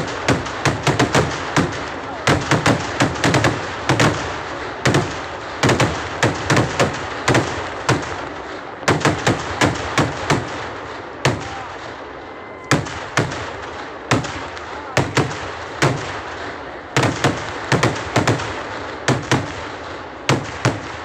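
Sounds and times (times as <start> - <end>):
fireworks bursting with bangs: 0.0 - 21.0.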